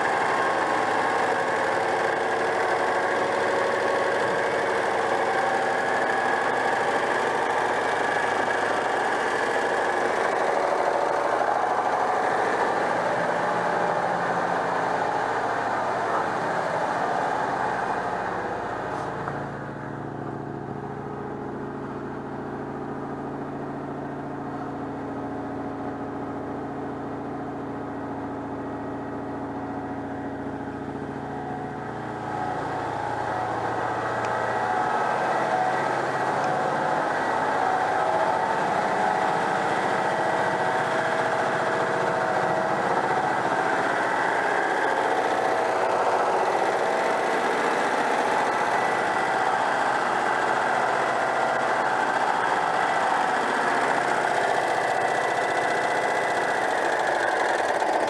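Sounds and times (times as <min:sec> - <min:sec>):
air-cooled engine idling: 0:00.0 - 0:58.0.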